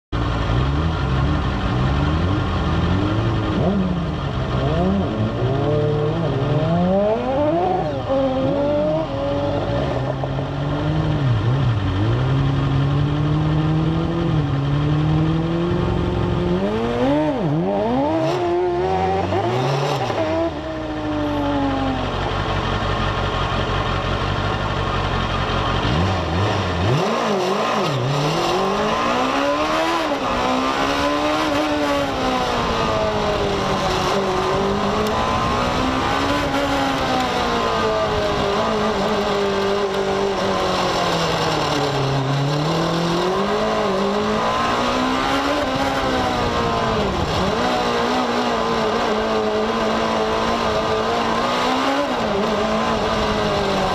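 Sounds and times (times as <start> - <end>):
race car engines revving: 0.1 - 53.9.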